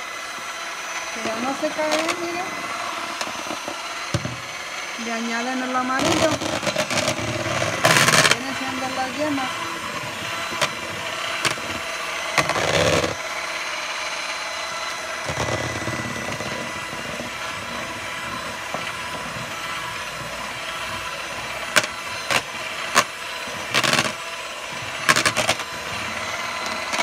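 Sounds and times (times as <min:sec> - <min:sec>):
electric hand mixer running: 0:00.0 - 0:27.0.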